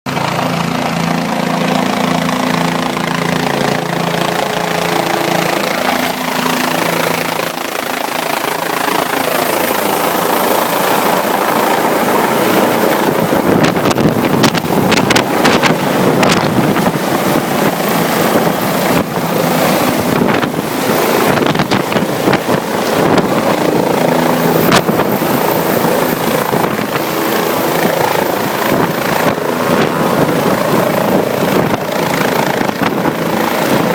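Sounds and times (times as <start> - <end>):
helicopter rotor and engine hum: 0.1 - 33.9
rotor wash buffeting microphone: 0.1 - 33.9.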